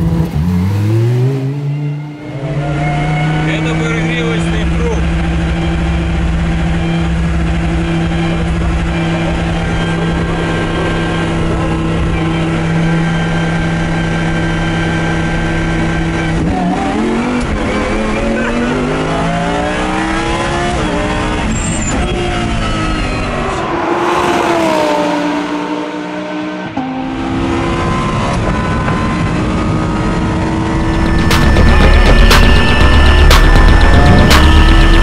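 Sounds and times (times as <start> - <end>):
race car engine revving: 0.0 - 35.0.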